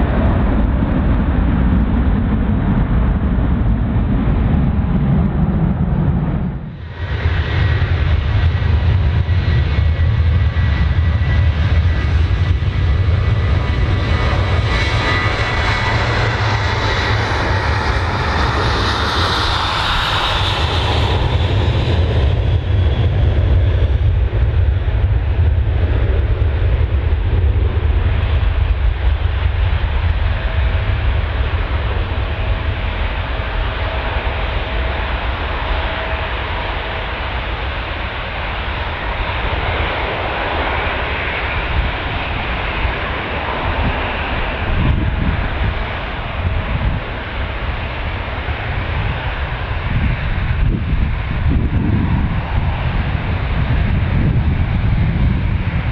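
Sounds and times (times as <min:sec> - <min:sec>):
jet engines rumbling: 0:00.0 - 0:55.9
jet passing roar: 0:00.0 - 0:55.9.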